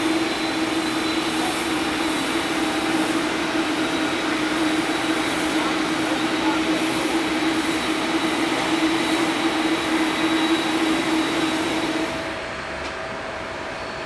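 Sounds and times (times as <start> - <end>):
faint high whine: 0.0 - 12.9
jet engines rushing hiss: 0.0 - 14.0.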